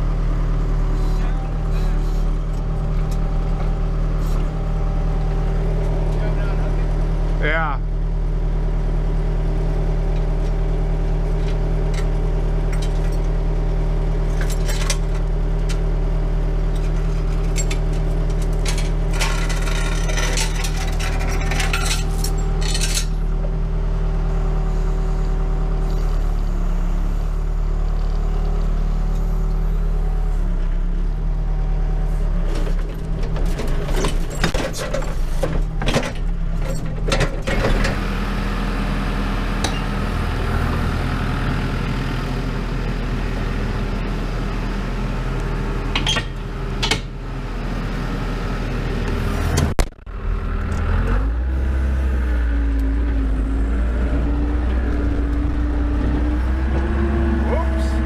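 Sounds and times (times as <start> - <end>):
backhoe engine idling: 0.0 - 58.0.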